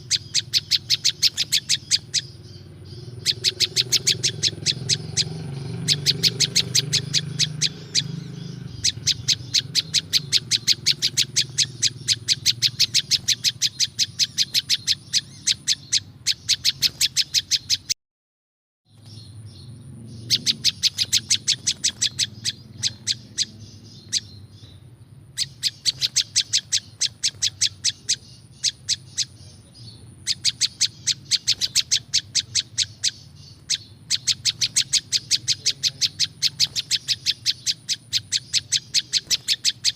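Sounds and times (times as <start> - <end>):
songbird rapid chirps: 0.0 - 18.0, 18.9 - 39.9.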